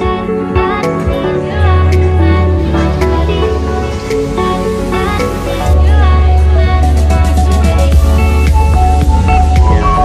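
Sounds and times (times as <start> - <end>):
music with a steady beat: 0.0 - 10.0.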